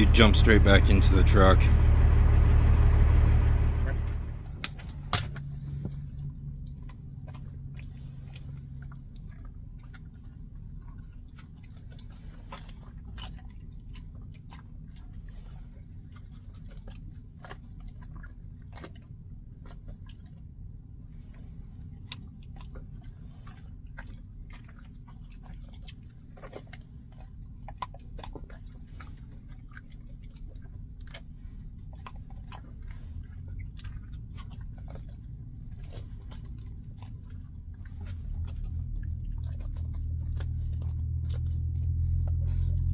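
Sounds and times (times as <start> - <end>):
low steady rumble: 0.0 - 42.9.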